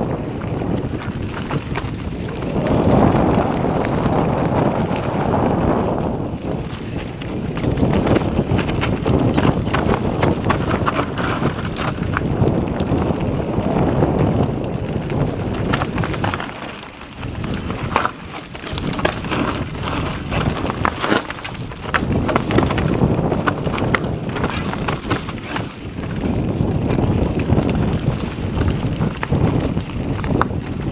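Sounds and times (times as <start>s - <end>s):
bike rattling over bumps: 0.0s - 30.9s
tyres on dirt: 0.0s - 30.9s
wind rushing over microphone: 0.0s - 30.9s.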